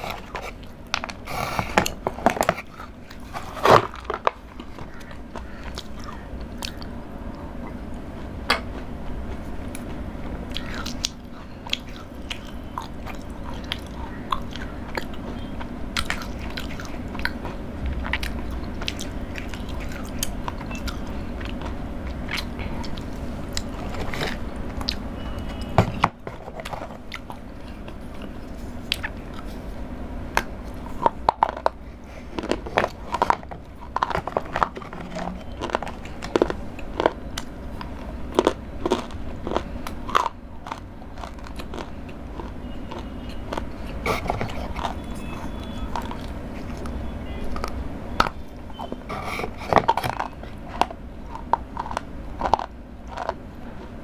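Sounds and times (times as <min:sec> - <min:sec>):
crunchy chewing of chocolate: 0:00.0 - 0:54.0.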